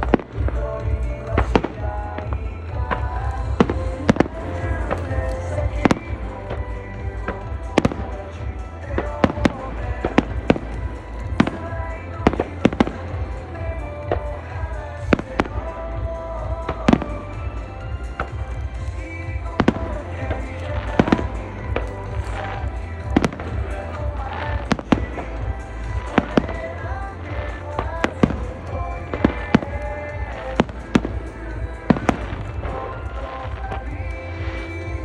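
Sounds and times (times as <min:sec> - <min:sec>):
fireworks cracks and booms: 0:00.0 - 0:35.0
music with long held notes: 0:00.0 - 0:35.0.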